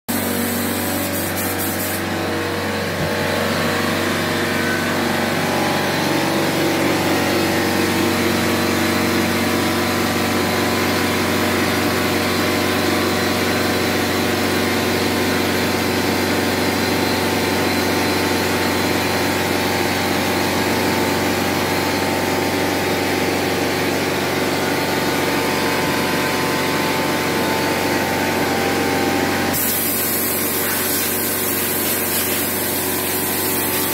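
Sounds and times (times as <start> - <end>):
motor running steadily: 0.1 - 33.9.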